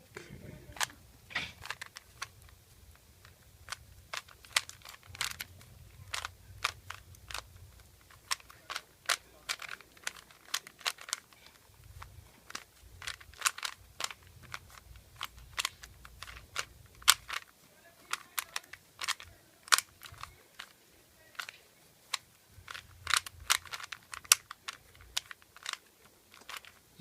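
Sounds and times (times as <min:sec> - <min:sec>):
plastic puzzle cube clicking: 0:00.7 - 0:27.0.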